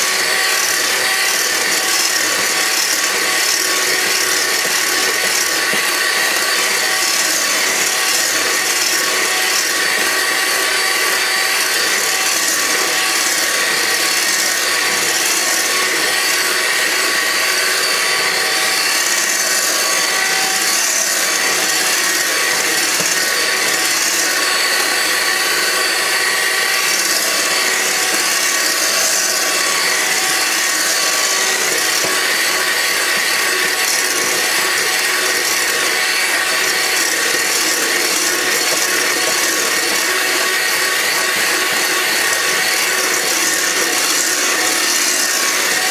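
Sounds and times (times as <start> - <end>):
electric hand mixer whining: 0.0 - 45.9.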